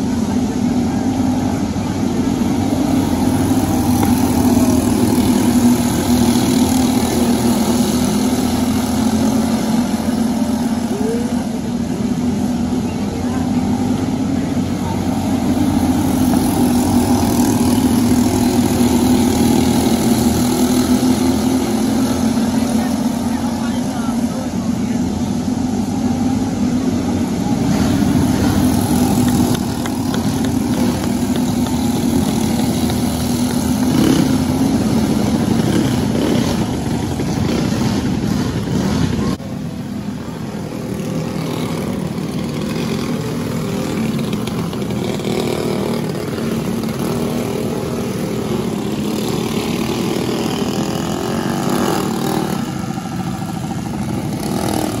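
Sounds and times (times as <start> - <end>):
kart engines running: 0.0 - 55.0.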